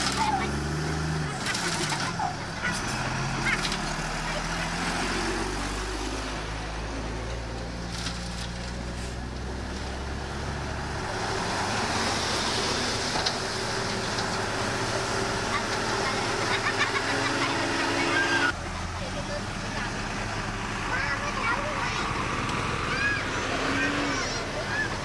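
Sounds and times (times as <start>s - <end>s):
heavy machinery diesel engine: 0.0s - 25.0s.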